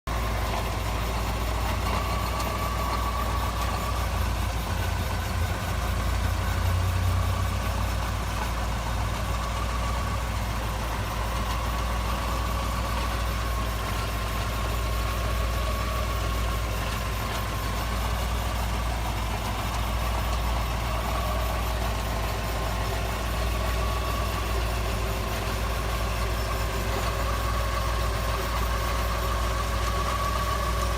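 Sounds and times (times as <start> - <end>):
car engine rumble: 0.1 - 30.9
thin whine from wheel: 0.1 - 30.9.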